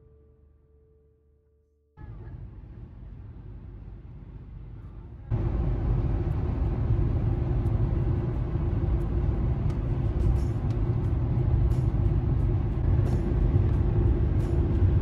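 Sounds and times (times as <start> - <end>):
constant low hum: 2.0 - 15.0
tyres and engine rumble: 2.0 - 15.0.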